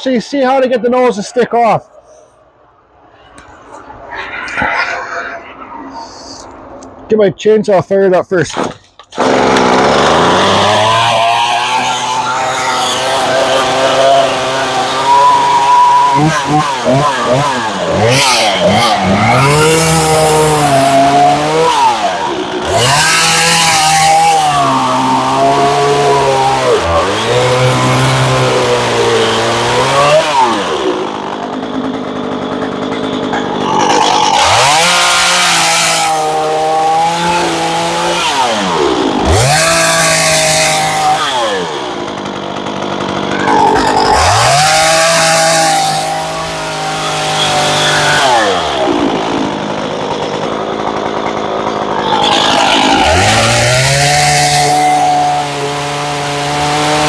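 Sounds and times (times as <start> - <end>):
chainsaw cutting wood: 8.5 - 57.0.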